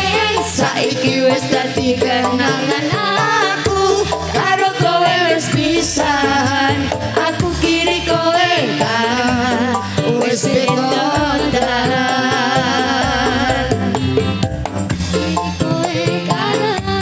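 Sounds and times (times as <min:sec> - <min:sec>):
gamelan band playing: 0:00.0 - 0:17.0
people singing into microphones: 0:00.0 - 0:17.0.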